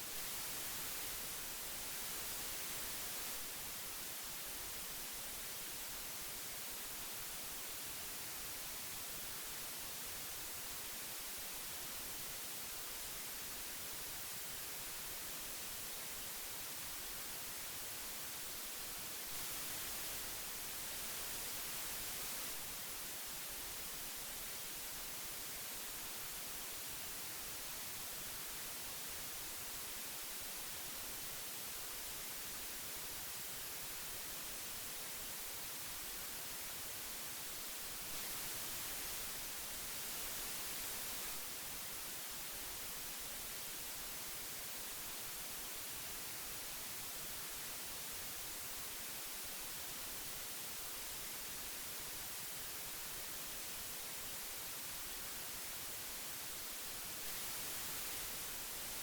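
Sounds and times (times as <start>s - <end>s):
magnetic tape hiss: 0.0s - 59.0s.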